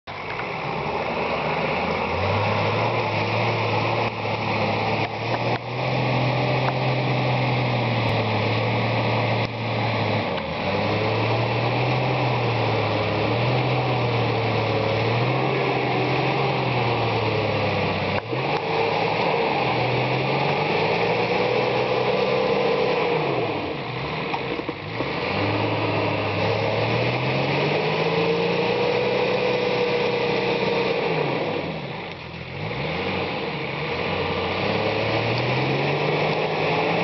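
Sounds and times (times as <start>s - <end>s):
off-road vehicle engine running: 0.0s - 37.0s.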